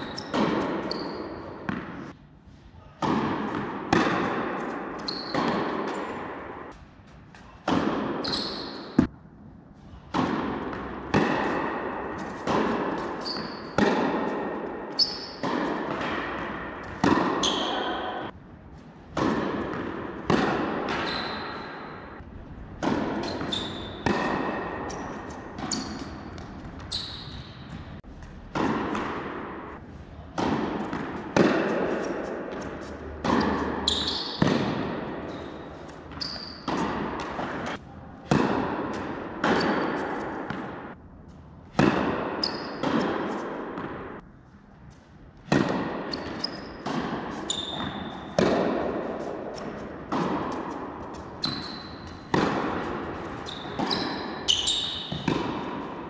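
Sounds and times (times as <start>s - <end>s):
tennis ball bouncing on court: 0.0s - 2.2s, 3.0s - 9.2s, 10.0s - 18.4s, 19.1s - 41.0s, 41.7s - 44.3s, 45.4s - 56.0s
racket hitting tennis ball: 0.0s - 2.3s, 2.9s - 56.0s.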